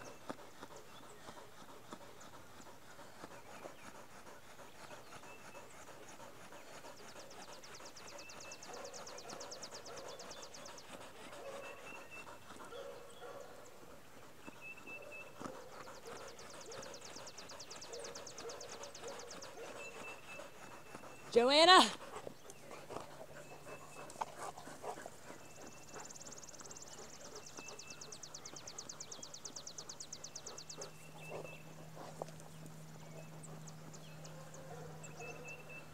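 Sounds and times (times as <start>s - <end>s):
dog panting: 0.0s - 35.9s.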